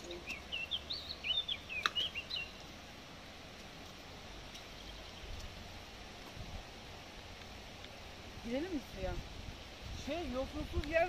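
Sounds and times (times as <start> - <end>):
faint outdoor background noise: 0.0 - 11.0
songbird chirping: 0.0 - 11.0.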